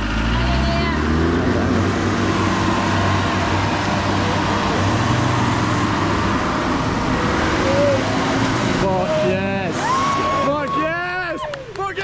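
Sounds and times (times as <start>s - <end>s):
vehicle engine running under load: 0.0s - 12.0s
dense rushing noise: 1.0s - 11.4s.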